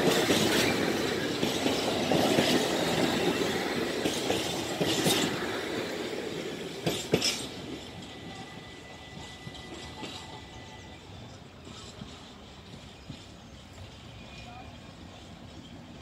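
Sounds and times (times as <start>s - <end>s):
train running on track: 0.0s - 16.0s.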